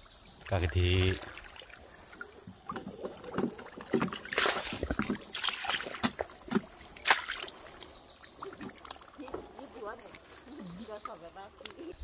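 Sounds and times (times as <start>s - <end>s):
wet splashes in muddy water: 0.4s - 12.0s.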